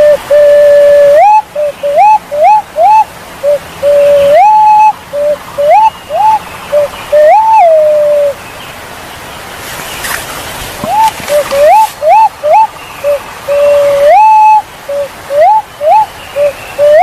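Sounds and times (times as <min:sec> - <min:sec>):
pigeon whistled hoots: 0:00.0 - 0:08.4, 0:10.8 - 0:17.0.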